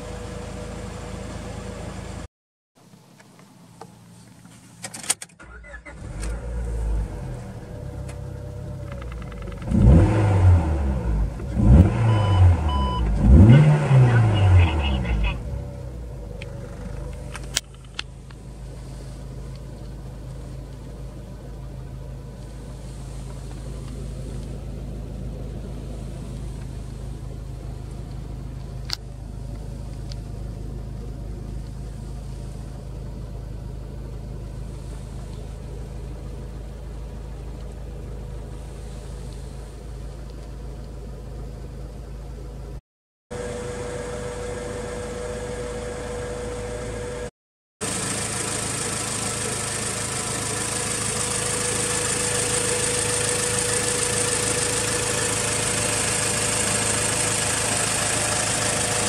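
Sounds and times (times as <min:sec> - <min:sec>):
car engine idling: 0:05.5 - 0:42.8, 0:43.4 - 0:59.0.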